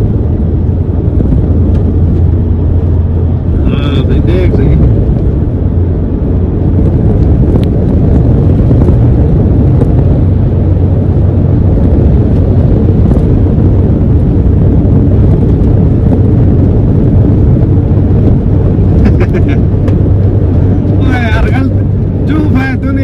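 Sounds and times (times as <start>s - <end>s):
truck engine and tyre rumble: 0.0s - 23.0s
wind on microphone: 0.0s - 23.0s.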